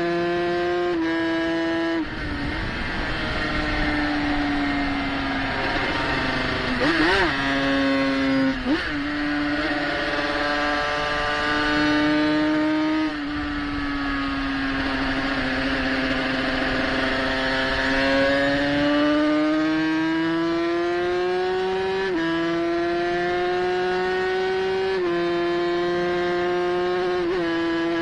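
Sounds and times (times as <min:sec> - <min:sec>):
racing motorcycle engine revving: 0:00.0 - 0:28.0.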